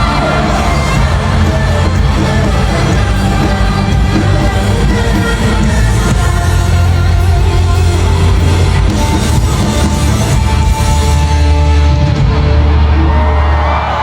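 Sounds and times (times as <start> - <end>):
loud pop-rock concert music: 0.0 - 14.0.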